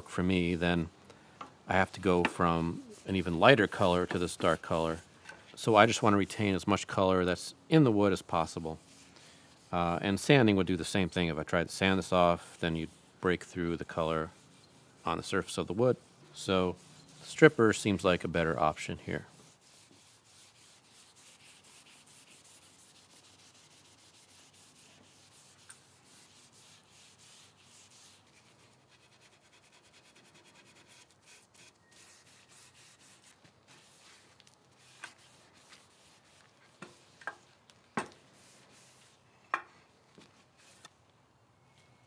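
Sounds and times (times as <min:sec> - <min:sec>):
brush and rag rubbing wood: 0:01.7 - 0:06.7, 0:08.2 - 0:11.0, 0:11.7 - 0:39.2, 0:40.1 - 0:40.9.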